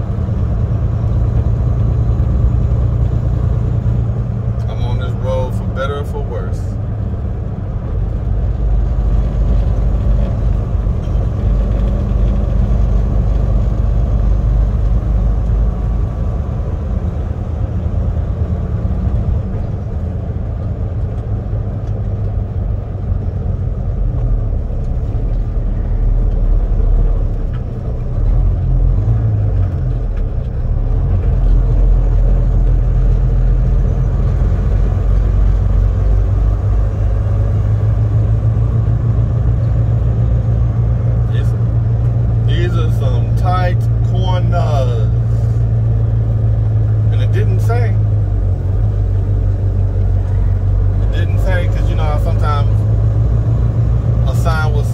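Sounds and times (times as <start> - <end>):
truck diesel engine droning: 0.0 - 54.9.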